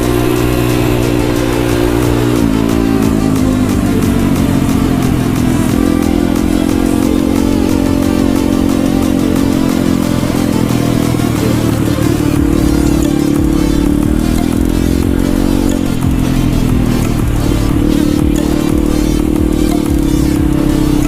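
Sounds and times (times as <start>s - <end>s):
pit bike engine running: 0.0s - 21.0s.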